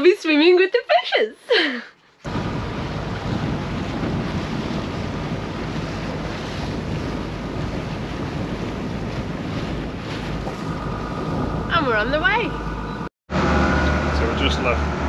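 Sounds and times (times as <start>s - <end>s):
water splashing along hull: 2.1s - 15.0s
wind buffeting microphone: 2.3s - 14.4s
low rumble: 2.3s - 15.0s.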